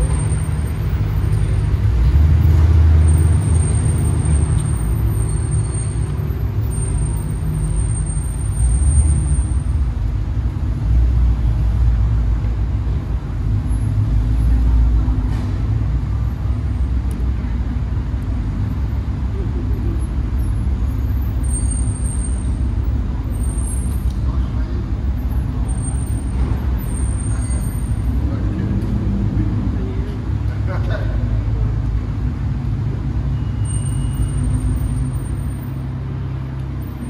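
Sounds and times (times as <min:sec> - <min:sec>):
sports car engines rumbling: 0:00.0 - 0:37.0.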